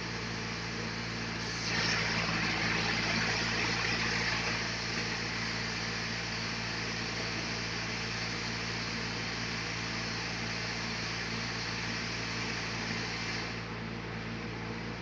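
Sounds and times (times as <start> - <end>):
sawmill saw motor hum: 0.0 - 13.8.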